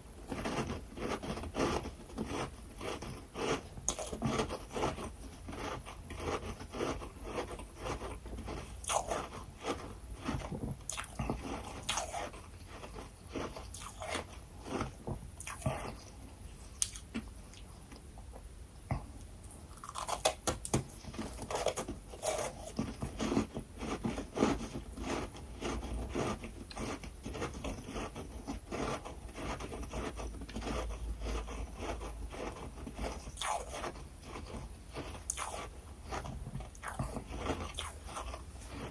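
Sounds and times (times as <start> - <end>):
person crunching frost: 0.3 - 16.2, 19.5 - 38.9.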